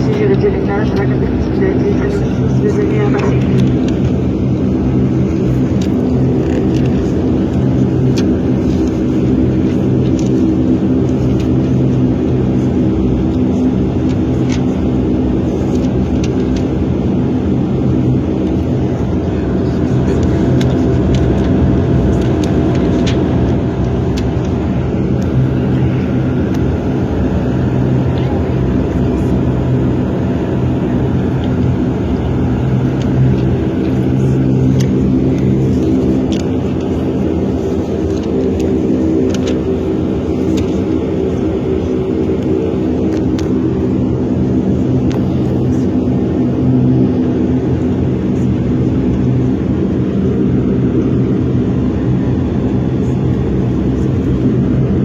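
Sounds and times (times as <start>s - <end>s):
turboprop engines droning: 0.0s - 55.0s.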